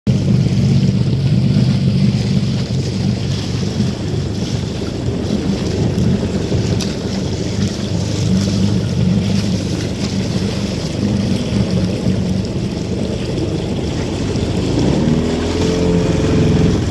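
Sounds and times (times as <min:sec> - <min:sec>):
water rushing and splashing: 0:00.1 - 0:16.9
wind buffeting microphone: 0:00.1 - 0:16.9.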